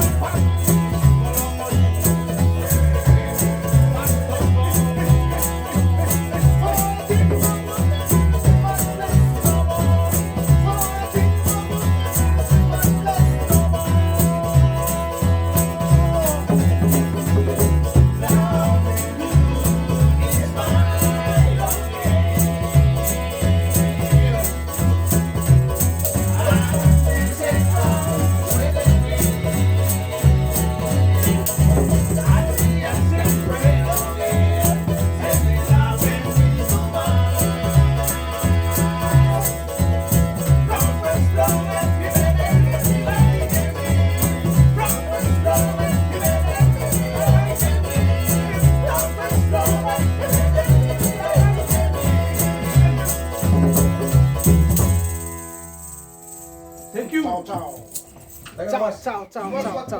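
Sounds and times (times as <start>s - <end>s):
voices singing: 0.0s - 55.4s
fast shaker beat: 0.0s - 56.9s
walking bass line: 0.0s - 58.4s
strummed string instruments: 0.0s - 59.0s.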